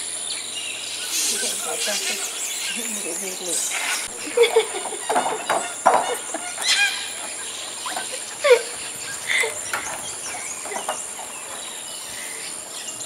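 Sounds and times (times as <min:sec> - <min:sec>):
high insect drone: 0:00.0 - 0:13.0
monkeys squeaking: 0:01.1 - 0:13.0.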